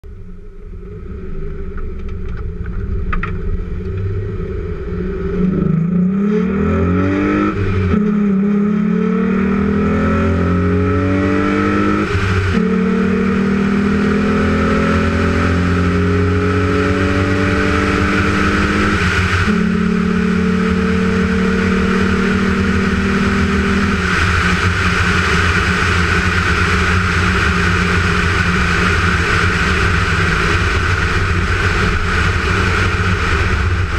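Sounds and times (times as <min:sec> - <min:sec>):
car engine accelerating through gears: 0:00.9 - 0:33.9.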